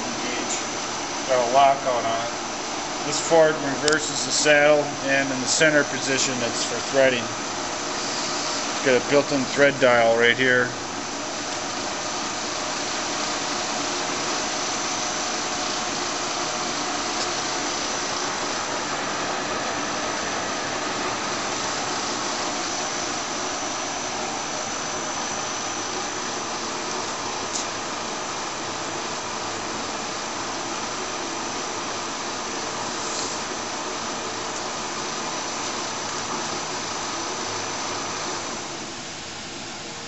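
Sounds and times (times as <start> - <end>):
high whine: 0.0 - 40.0
lathe running: 0.0 - 40.0.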